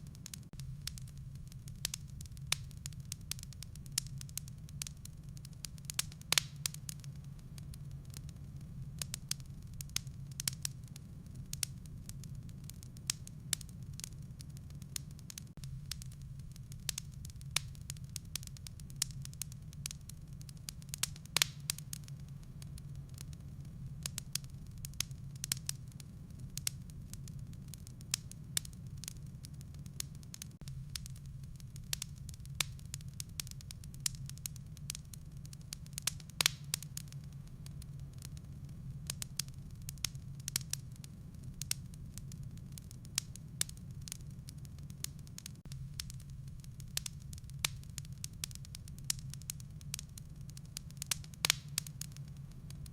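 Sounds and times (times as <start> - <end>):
low rumble of flames: 0.0 - 52.9
wood fire crackling and popping: 0.0 - 52.9.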